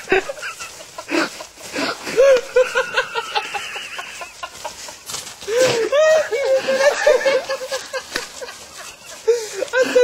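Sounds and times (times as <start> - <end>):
bursts of laughter: 0.0 - 10.0.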